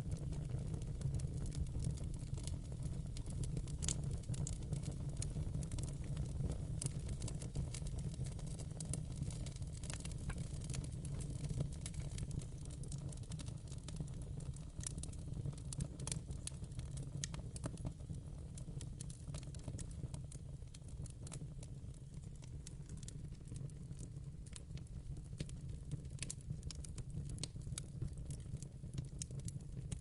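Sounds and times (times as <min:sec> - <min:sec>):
fire crackling in fireplace: 0:00.0 - 0:30.0.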